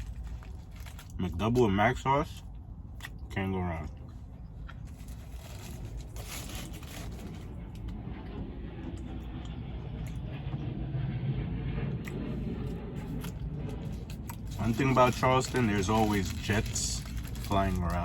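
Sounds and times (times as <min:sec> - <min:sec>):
aircraft rumbling overhead: 0:00.0 - 0:18.0.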